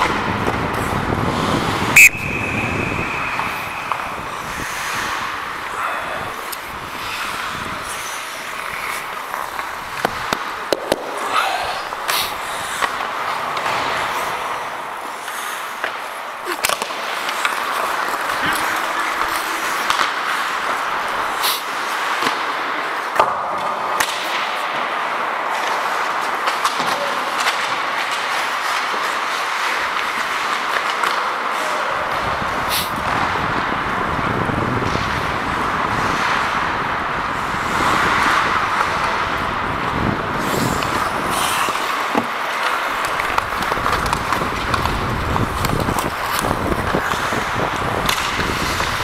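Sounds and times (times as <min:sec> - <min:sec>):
hockey sticks and puck clacking: 0:00.0 - 0:49.0
skate blades scraping ice: 0:00.0 - 0:49.0.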